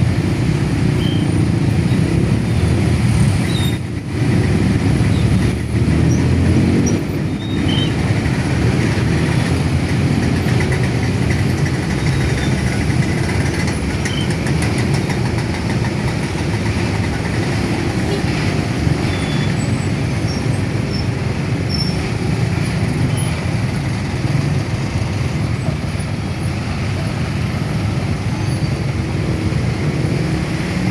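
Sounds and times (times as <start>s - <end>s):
motor vehicles rumbling: 0.0s - 30.9s.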